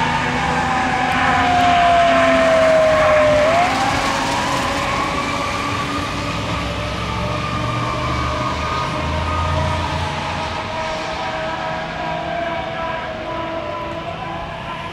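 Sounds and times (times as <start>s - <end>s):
fire engine siren wailing: 0.0s - 14.9s.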